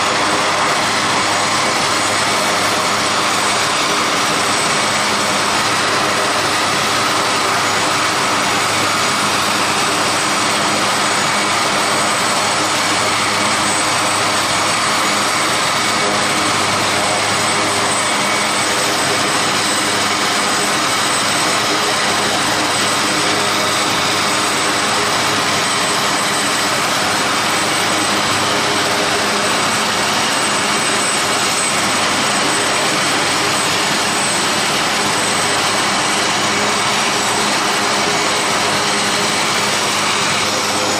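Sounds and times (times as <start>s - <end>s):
aircraft turbine engines: 0.0s - 40.9s.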